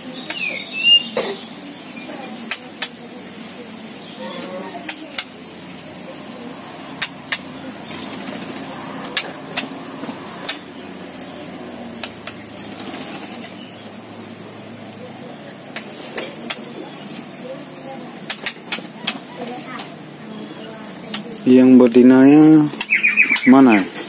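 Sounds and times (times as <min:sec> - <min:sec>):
low background hum: 0:00.0 - 0:24.0
bird clicking calls: 0:00.2 - 0:03.1, 0:04.0 - 0:14.0, 0:15.5 - 0:21.8, 0:22.4 - 0:24.0.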